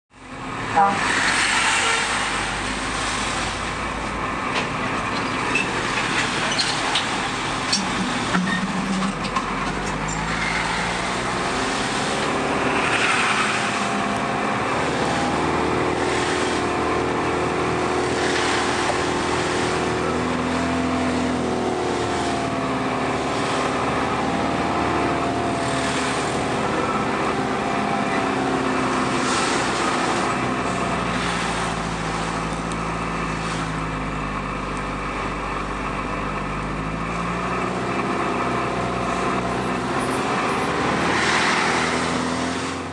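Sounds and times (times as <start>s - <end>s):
road noise: 0.1s - 42.9s
vehicle engine: 0.1s - 42.9s.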